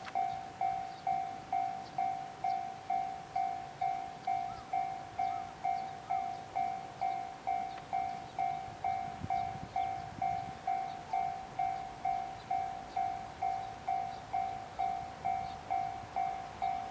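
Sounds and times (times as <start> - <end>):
level crossing warning bell ringing: 0.0 - 16.9.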